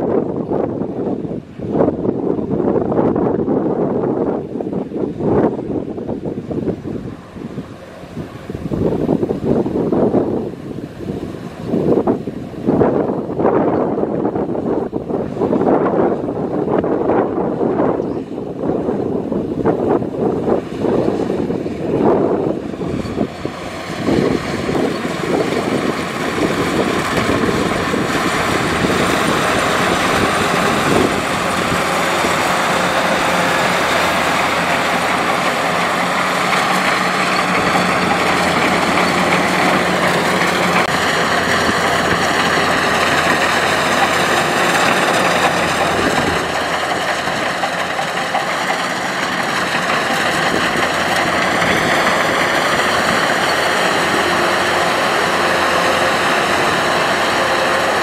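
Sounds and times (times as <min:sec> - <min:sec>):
combine harvester working: 0:00.0 - 0:58.0.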